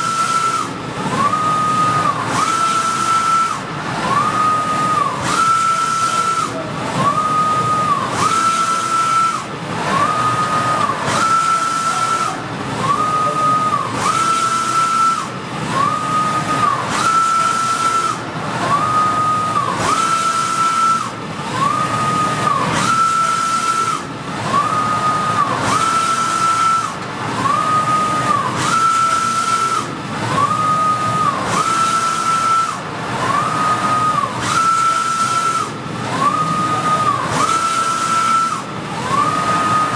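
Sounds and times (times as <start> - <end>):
printer carriage whining: 0.0 - 39.9.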